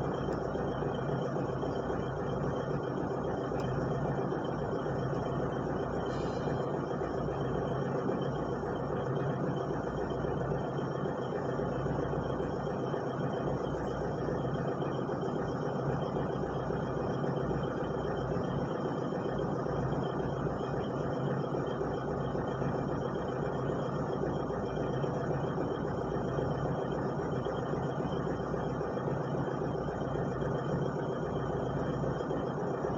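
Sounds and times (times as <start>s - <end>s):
excavator engine running: 0.0s - 32.9s.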